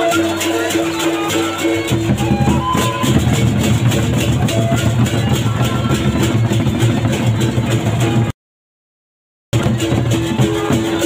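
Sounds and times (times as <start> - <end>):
barrel drums beaten fast: 0.8 - 8.3, 9.6 - 11.0.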